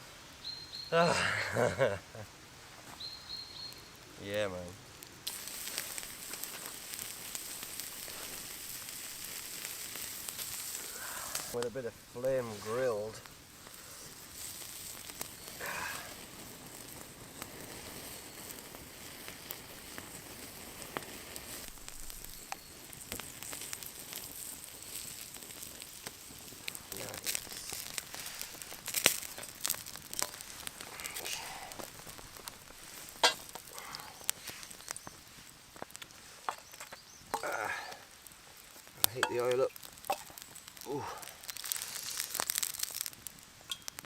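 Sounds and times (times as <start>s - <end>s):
campfire crackling and hissing: 0.0s - 44.0s
sharp pops of fire: 3.0s - 44.0s.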